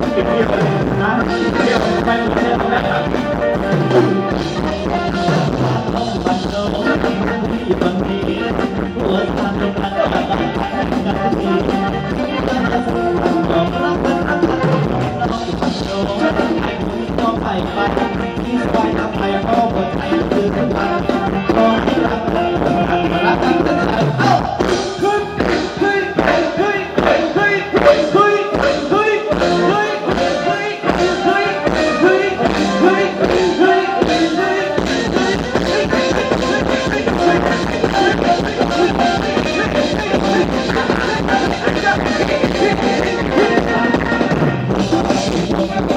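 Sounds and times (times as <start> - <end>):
live band dance music: 0.0 - 45.9
person singing: 0.0 - 45.9
steady drum beat: 0.0 - 45.9.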